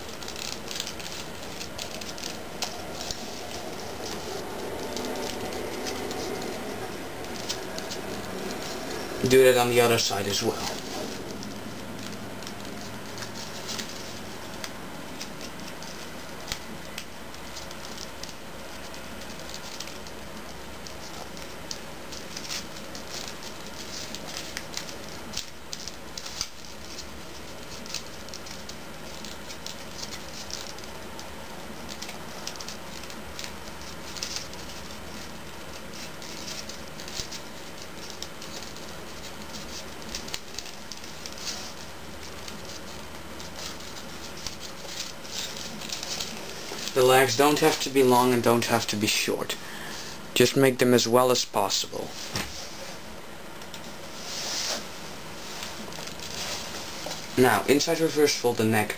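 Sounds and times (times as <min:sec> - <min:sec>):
small paper crackles and taps: 0:00.0 - 0:47.0, 0:53.6 - 0:54.0
paper crinkling and rustling: 0:00.0 - 0:50.7, 0:51.6 - 0:58.9.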